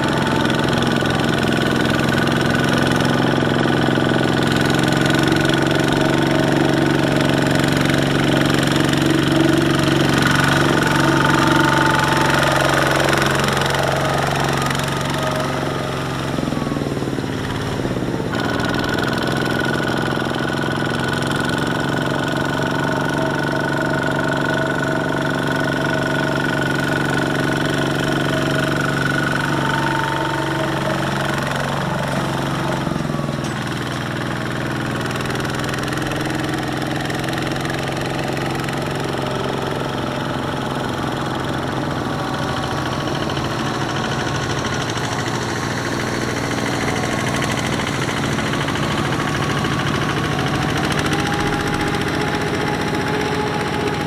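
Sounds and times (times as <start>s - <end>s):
diesel tractor engines chugging: 0.0s - 54.0s.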